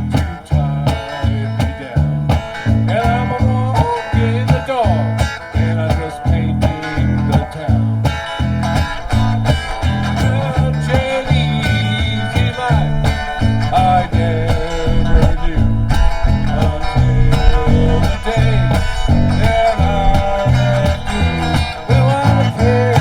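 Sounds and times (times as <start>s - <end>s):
bass guitar line: 0.0s - 23.0s
electric guitar lead: 0.0s - 23.0s.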